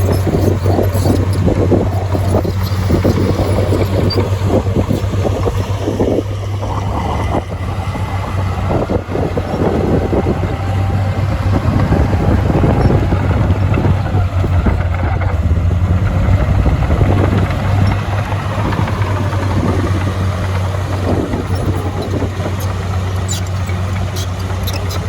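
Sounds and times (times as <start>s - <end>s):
heavy diesel machinery engine: 0.0s - 25.0s.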